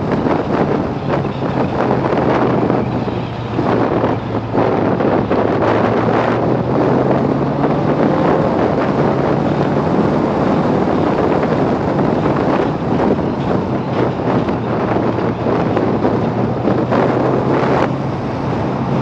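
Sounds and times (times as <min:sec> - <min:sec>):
motorcycle engine hum: 0:00.0 - 0:19.0
wind rushing over microphone: 0:00.0 - 0:19.0.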